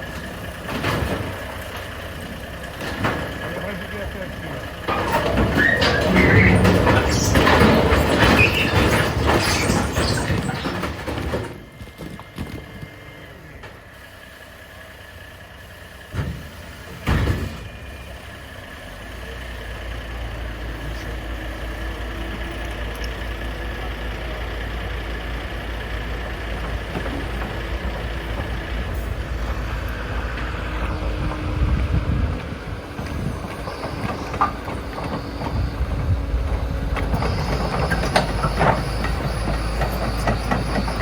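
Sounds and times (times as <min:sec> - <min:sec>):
heavy vehicle engine running: 0:00.0 - 0:41.0.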